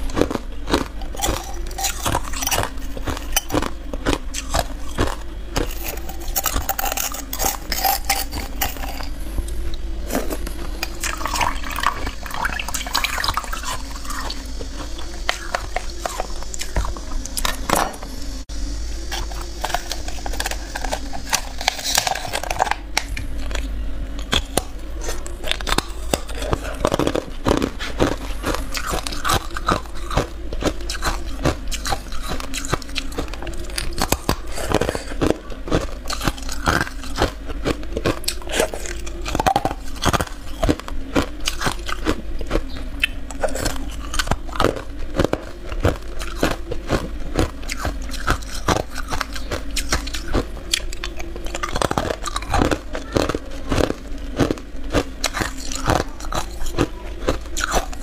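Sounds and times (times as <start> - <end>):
ice crunching between teeth: 0.0 - 17.8, 19.1 - 58.0.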